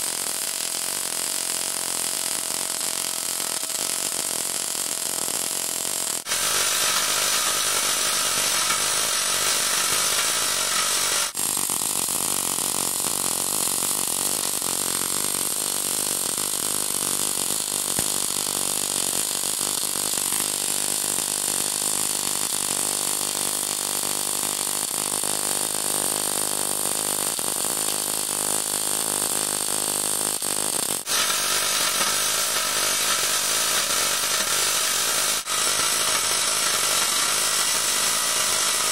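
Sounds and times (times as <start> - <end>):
welding arc crackling hiss: 0.0 - 38.9.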